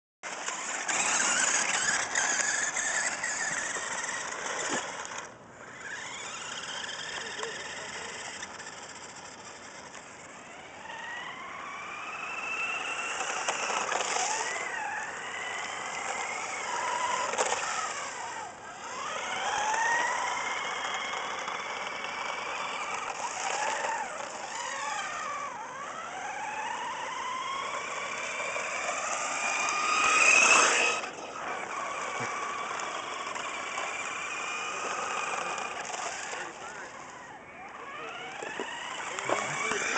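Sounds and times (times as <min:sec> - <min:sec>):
remote-control car motor whining: 0:00.2 - 0:39.9.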